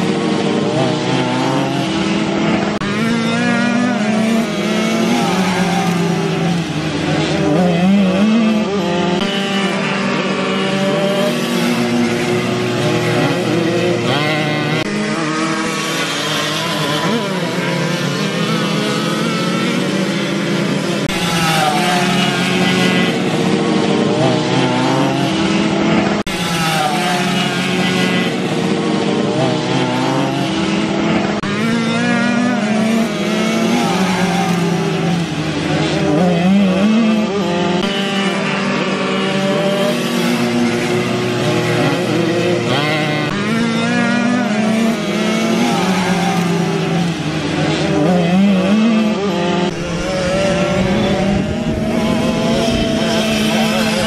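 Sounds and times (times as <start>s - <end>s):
bikes passing by: 0.0s - 54.0s
two-stroke moped engines revving: 0.0s - 54.0s.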